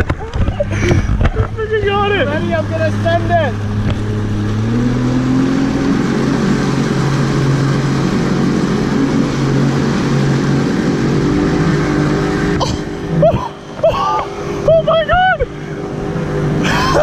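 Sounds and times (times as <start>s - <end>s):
motorboat engine: 0.0s - 17.0s
rush of the wake: 0.0s - 17.0s
wind: 0.0s - 17.0s.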